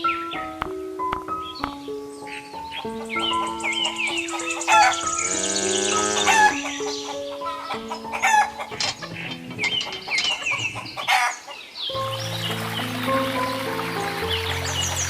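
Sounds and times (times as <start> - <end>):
background music with sustained notes: 0.0 - 15.0
chickens clucking: 1.6 - 15.0.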